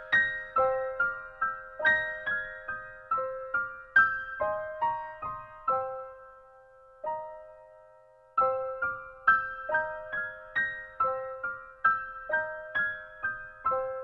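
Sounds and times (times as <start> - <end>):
slow high keyboard melody: 0.0 - 14.0.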